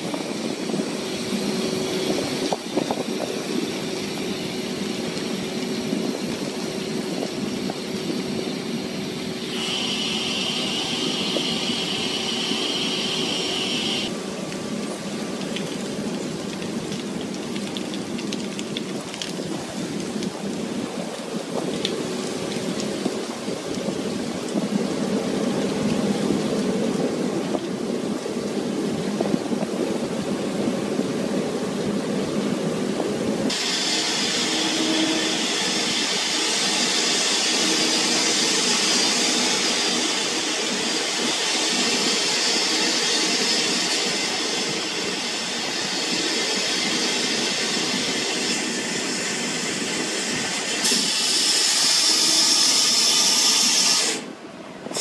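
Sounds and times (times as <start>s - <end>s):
hissing rush of water: 0.0s - 55.0s
ship machinery hum: 0.0s - 55.0s.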